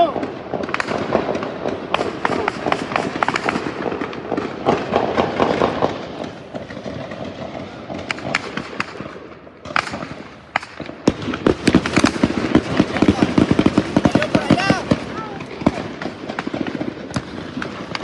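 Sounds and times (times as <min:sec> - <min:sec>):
gunshots: 0:00.0 - 0:18.0.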